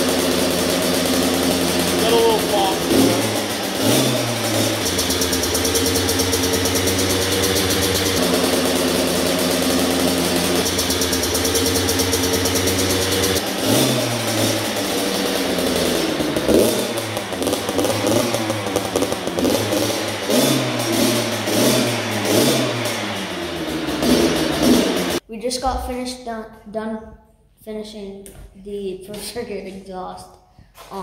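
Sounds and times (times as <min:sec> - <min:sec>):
dirt bike engine idling: 0:00.0 - 0:25.2.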